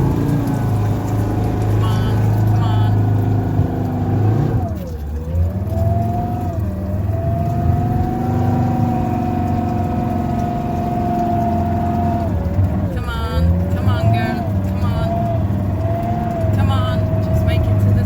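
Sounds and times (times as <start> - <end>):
diesel engine revving with whine: 0.0 - 18.0
vehicle moving through water: 0.0 - 18.0.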